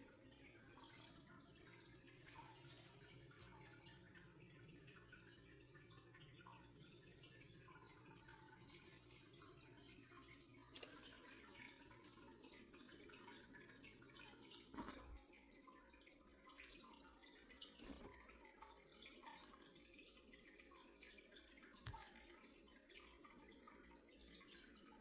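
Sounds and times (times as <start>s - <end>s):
water dripping and trickling: 0.0s - 25.0s.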